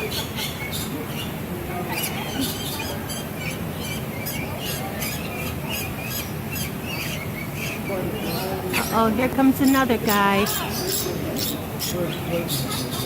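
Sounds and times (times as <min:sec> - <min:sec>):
lorikeets squawking and screeching: 0:00.0 - 0:13.0.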